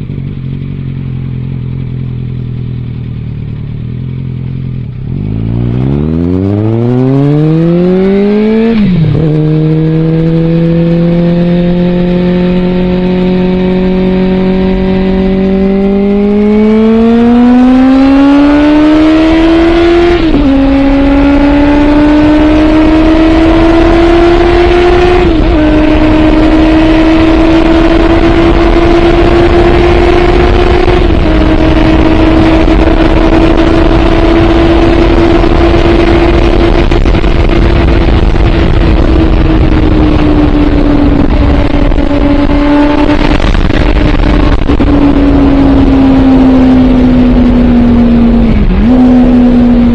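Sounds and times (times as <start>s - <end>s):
motorcycle engine accelerating: 0.0s - 49.9s
wind rushing over microphone: 5.1s - 49.9s.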